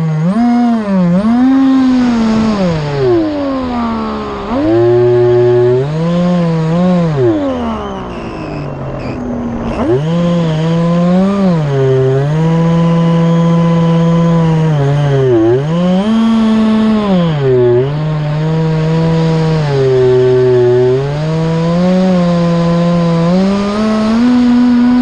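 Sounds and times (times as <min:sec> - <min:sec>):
electric motor and propeller whining: 0:00.0 - 0:25.0.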